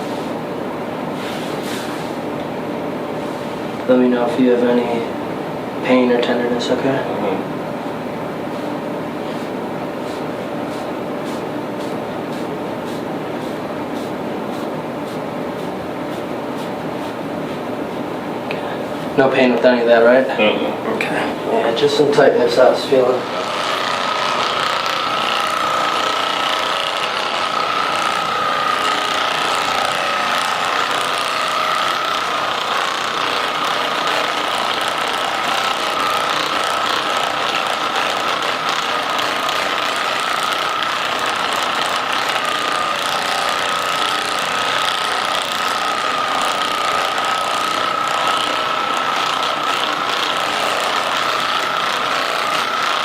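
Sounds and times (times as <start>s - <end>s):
massage gun running: 0.0s - 53.0s.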